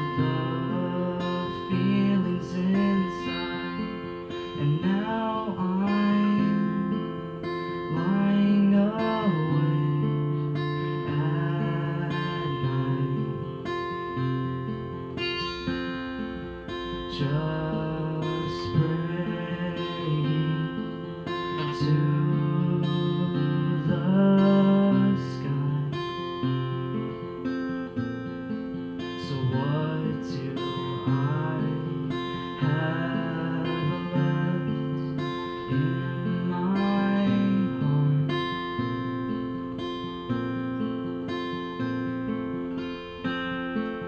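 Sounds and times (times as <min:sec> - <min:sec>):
acoustic guitar: 0:00.0 - 0:44.0.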